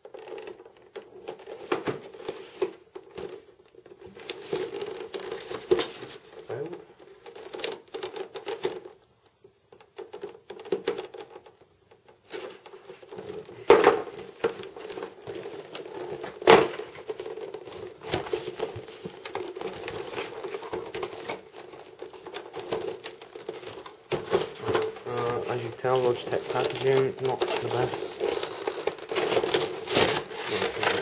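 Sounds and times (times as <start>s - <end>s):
cardboard and plastic packaging rustling: 0.0s - 31.0s
sharp plastic cracks: 0.0s - 31.0s.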